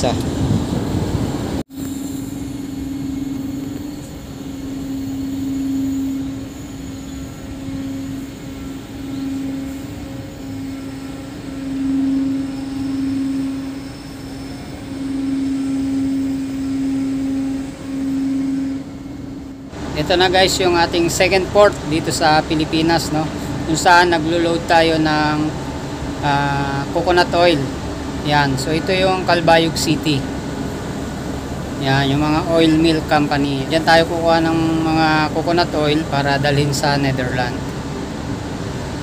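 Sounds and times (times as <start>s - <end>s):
ship deck machinery hum: 0.0s - 39.0s.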